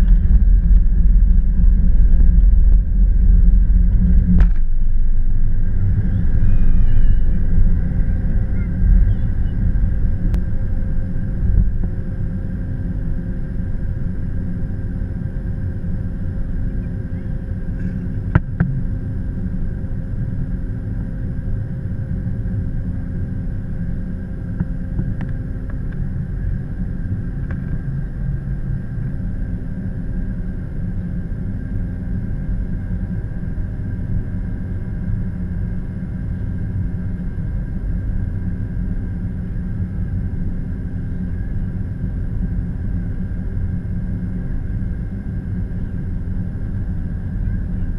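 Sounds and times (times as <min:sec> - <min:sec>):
faint engine whine: 0:00.0 - 0:47.9
jet engines roaring at takeoff: 0:00.0 - 0:47.9.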